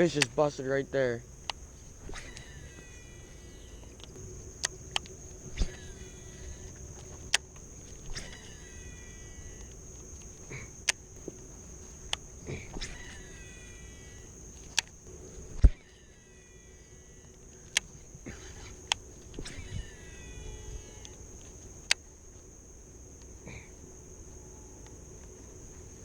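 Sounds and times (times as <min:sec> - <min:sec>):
sharp clicks: 0:00.0 - 0:22.5
high insect drone: 0:00.0 - 0:26.0.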